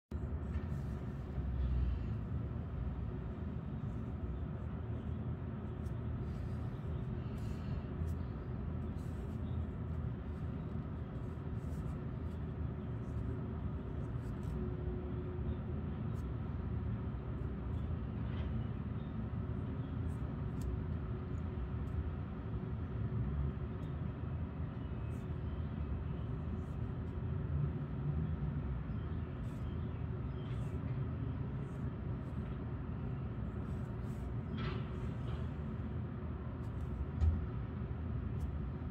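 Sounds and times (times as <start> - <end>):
low background rumble: 0.0 - 38.9.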